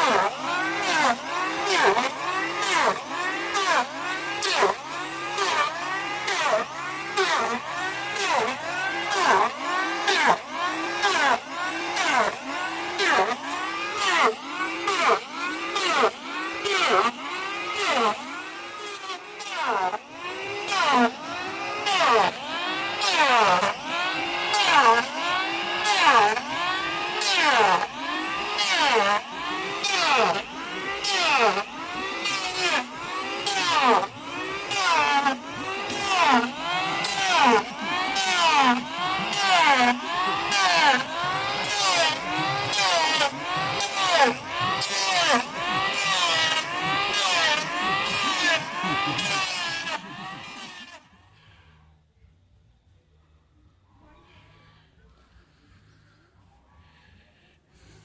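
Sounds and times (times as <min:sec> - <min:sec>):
chainsaw revving while cutting wood: 0:00.0 - 0:51.2.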